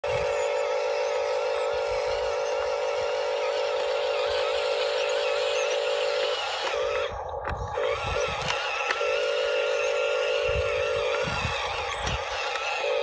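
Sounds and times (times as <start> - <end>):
toy excavator motors whining: 0.0 - 13.0.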